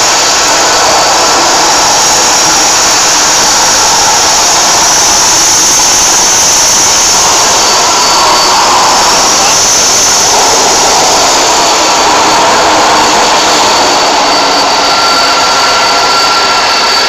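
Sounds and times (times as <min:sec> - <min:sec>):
high jet engine whine: 0:00.0 - 0:17.0
jet engines rushing: 0:00.0 - 0:17.0.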